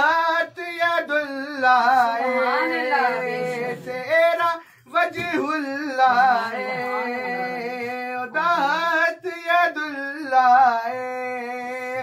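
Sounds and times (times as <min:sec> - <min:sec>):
voices singing devotional song: 0:00.0 - 0:12.0.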